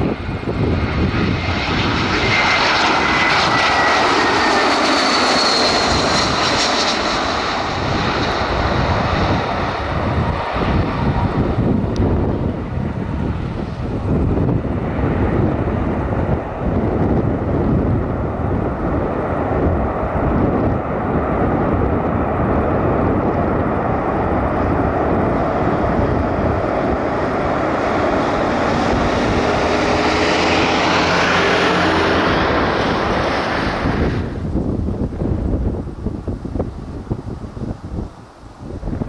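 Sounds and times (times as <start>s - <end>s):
airliner engines running: 0.0s - 39.0s
engine whine: 0.0s - 39.0s
wind gusting on microphone: 0.0s - 39.0s.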